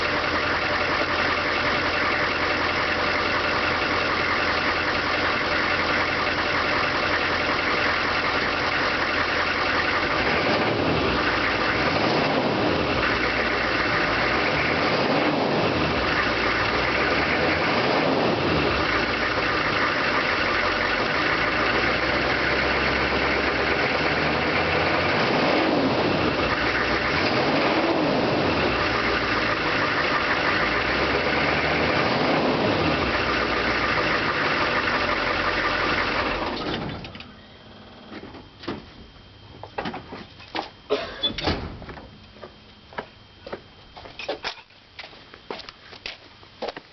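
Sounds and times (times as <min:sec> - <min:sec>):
diesel truck engine idling and revving: 0:00.0 - 0:38.1.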